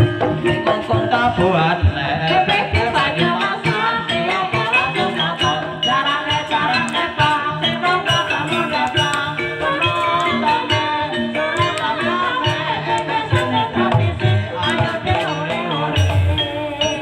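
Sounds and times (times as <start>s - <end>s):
struck metal gamelan notes: 0.0s - 17.0s.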